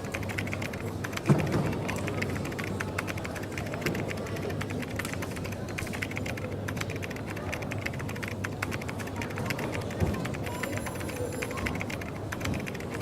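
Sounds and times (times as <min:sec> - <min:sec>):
keyboard key clicks: 0:00.0 - 0:13.0
low cafe background hum: 0:00.0 - 0:13.0.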